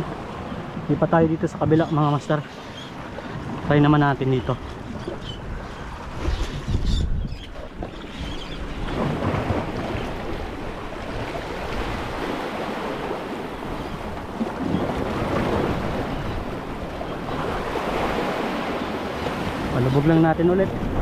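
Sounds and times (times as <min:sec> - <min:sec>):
sea waves washing in: 0:00.0 - 0:06.8, 0:07.7 - 0:21.0
wind buffeting microphone: 0:03.0 - 0:21.0.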